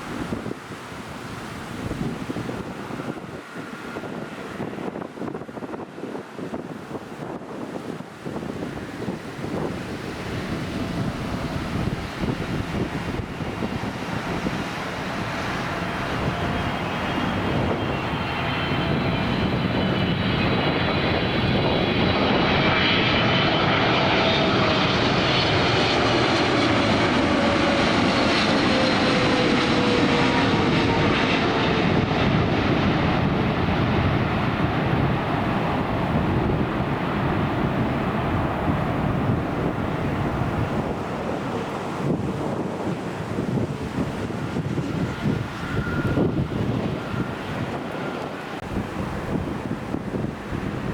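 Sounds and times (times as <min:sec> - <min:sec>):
jet airliner passing: 0:00.0 - 0:50.9.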